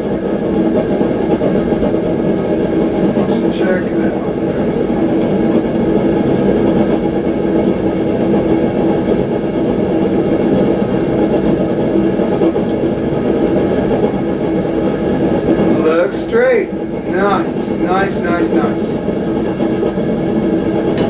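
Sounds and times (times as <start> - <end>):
forge rushing noise: 0.0 - 21.0.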